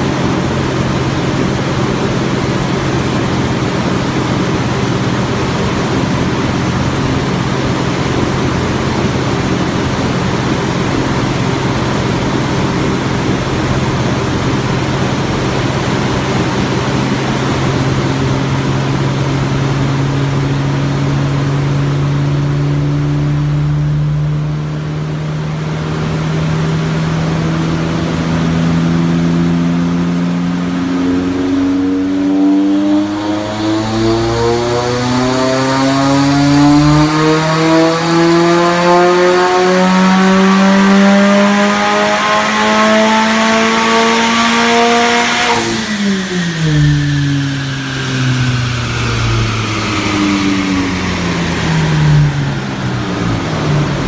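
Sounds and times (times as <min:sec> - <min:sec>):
car engine revving on dyno: 0:00.0 - 0:54.0.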